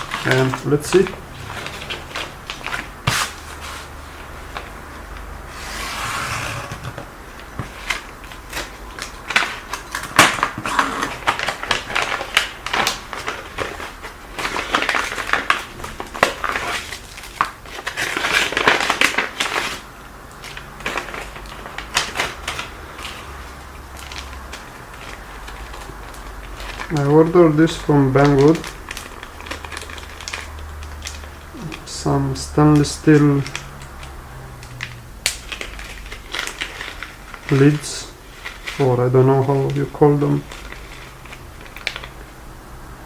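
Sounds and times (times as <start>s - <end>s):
packaging crinkling and rustling: 0.0s - 42.6s.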